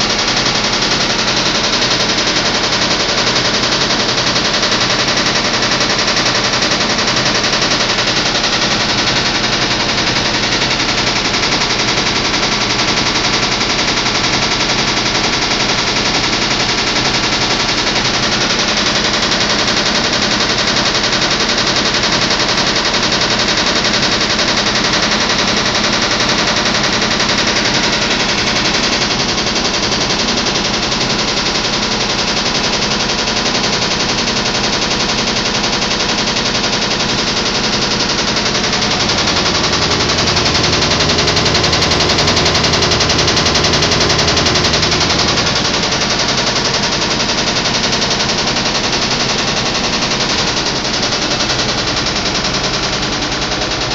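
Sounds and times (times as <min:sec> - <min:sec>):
washing machine rattling knock: 0:00.0 - 0:53.9.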